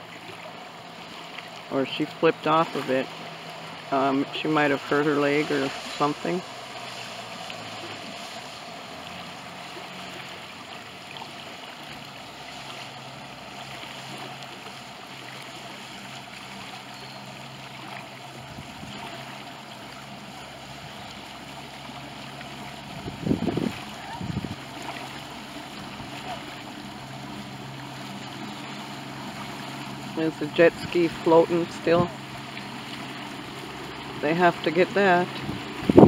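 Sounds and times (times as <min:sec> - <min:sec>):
distant boat motor: 0:00.0 - 0:36.0
wind and water: 0:00.0 - 0:36.0.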